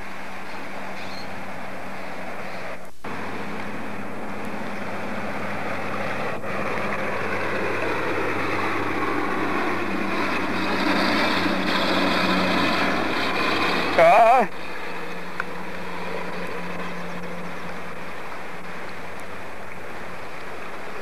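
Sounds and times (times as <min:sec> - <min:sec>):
river rushing over riffles: 0:00.0 - 0:21.0.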